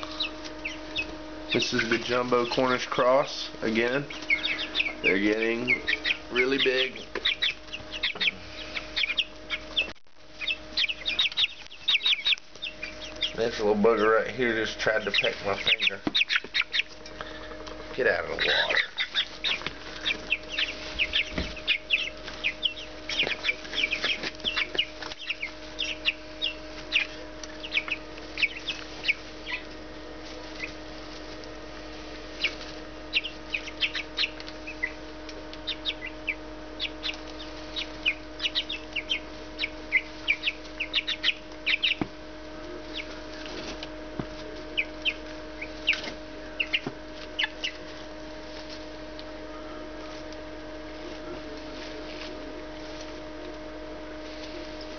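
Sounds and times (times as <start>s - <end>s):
chicks peeping: 0.0s - 54.9s
low hum: 0.0s - 54.9s.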